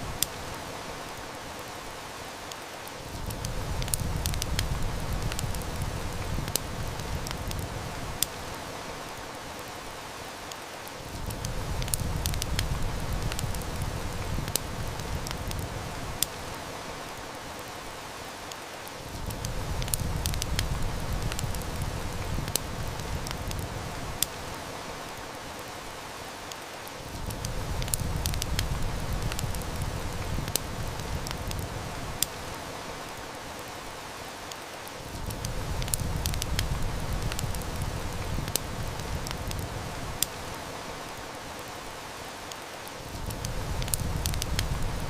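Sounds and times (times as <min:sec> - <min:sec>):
heavy rain hissing: 0:00.0 - 0:45.0
wood fire crackling: 0:00.0 - 0:45.0.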